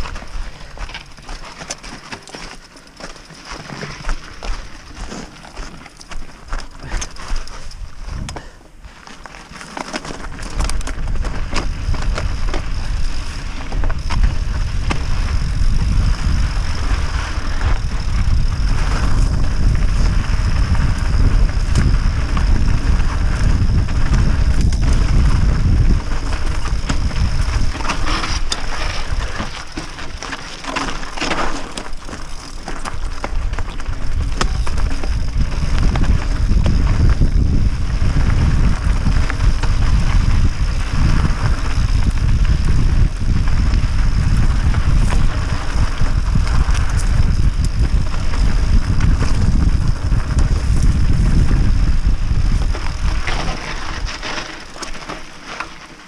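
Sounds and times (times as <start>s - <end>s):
wind rumble on microphone: 0.0s - 1.4s, 3.8s - 8.6s, 10.1s - 55.7s
bike rattling over rocks: 0.0s - 56.0s
tyres crunching on stones: 0.0s - 56.0s.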